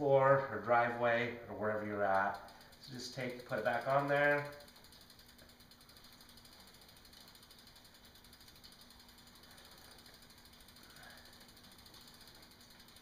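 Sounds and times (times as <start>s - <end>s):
bicycle freewheel clicking: 0.4s - 13.0s.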